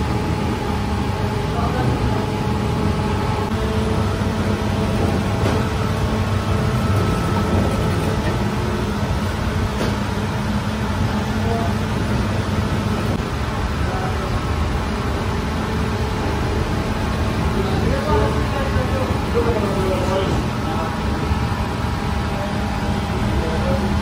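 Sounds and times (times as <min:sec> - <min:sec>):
dough machine humming: 0:00.0 - 0:24.0.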